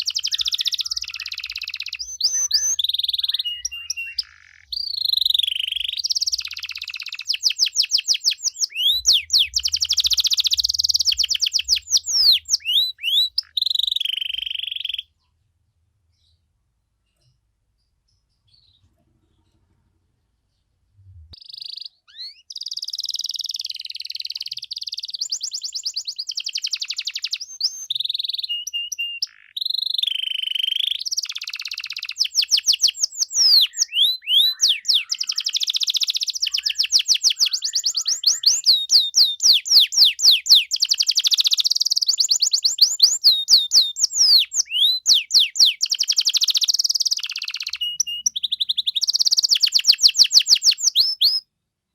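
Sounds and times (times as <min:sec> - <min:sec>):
canary singing trills: 0:00.0 - 0:15.4, 0:20.6 - 0:51.5.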